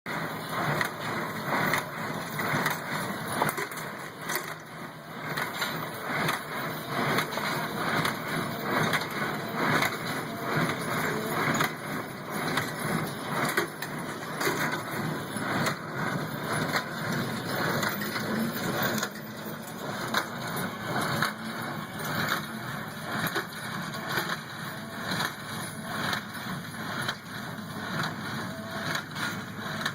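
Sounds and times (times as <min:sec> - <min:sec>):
hay baler clattering: 0:00.1 - 0:29.9.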